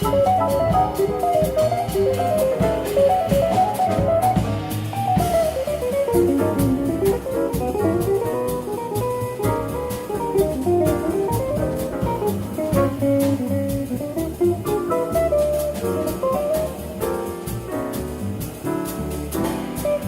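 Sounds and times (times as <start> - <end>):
drum kit: 0.0 - 20.0
walking bass: 0.0 - 20.0.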